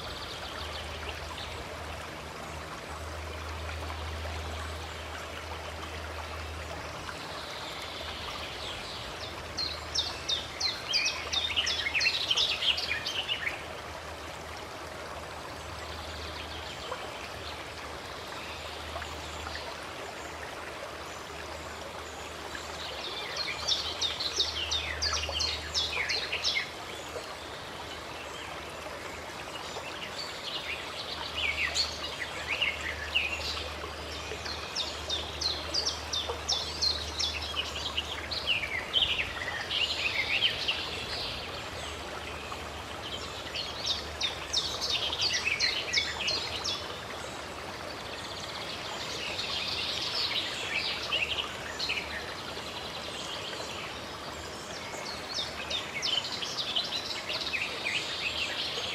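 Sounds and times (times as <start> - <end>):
running water flowing: 0.0 - 58.9.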